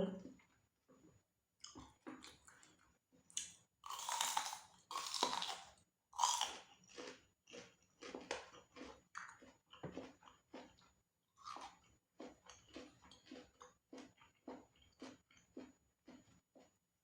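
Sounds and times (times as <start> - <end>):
crunchy food chewing: 1.6 - 16.8.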